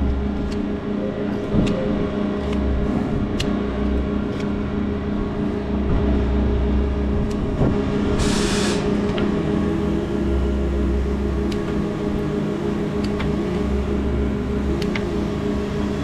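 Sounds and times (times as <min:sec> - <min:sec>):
deep rumble: 0:00.0 - 0:16.0
motor humming: 0:00.0 - 0:16.0.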